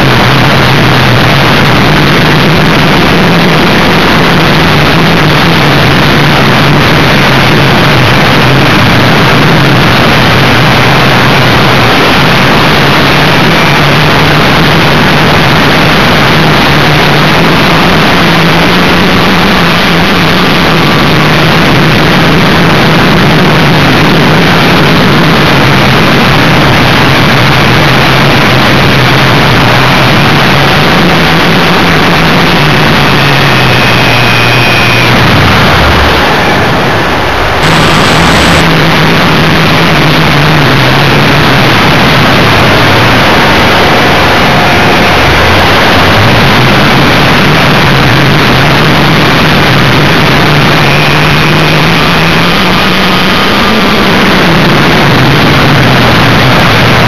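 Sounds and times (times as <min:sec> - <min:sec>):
model jet motor drone: 0:00.0 - 0:57.0
wind rush: 0:00.0 - 0:57.0.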